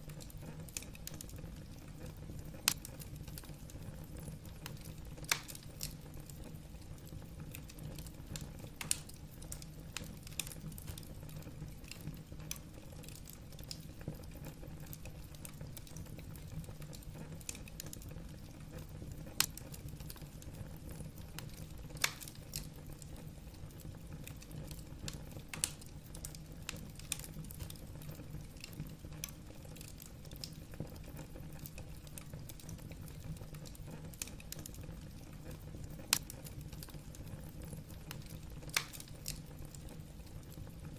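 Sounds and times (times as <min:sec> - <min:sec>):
firewood crackling: 0:00.0 - 0:40.9.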